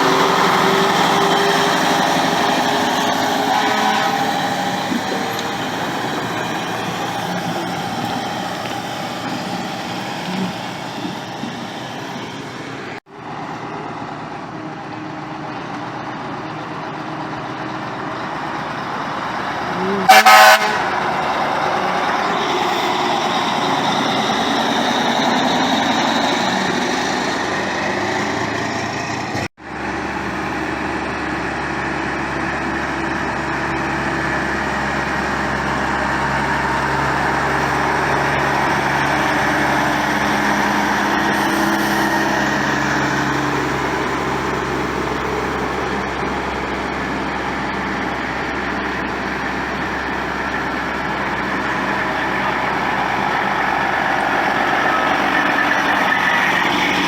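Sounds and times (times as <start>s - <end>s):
truck diesel engines running: 0.0s - 57.0s.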